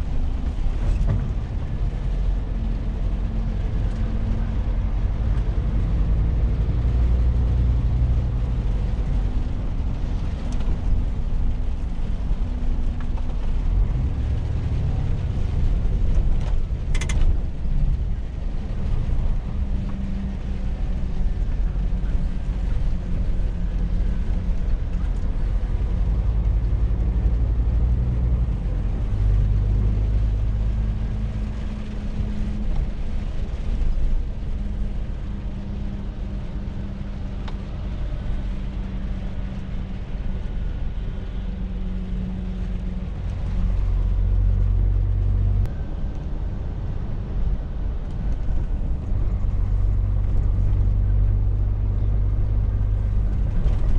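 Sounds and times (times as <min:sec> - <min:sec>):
truck engine droning in cab: 0:00.0 - 0:53.9.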